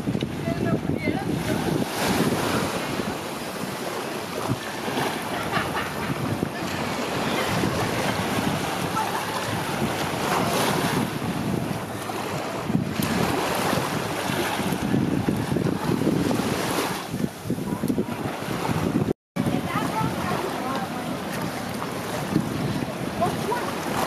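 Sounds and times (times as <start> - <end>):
sea surf on rocky shore: 0.0 - 24.0
wind buffeting microphone: 0.0 - 24.0.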